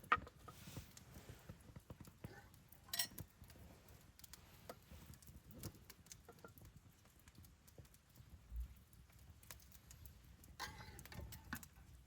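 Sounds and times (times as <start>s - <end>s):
firewood crackling and popping: 0.0s - 12.0s.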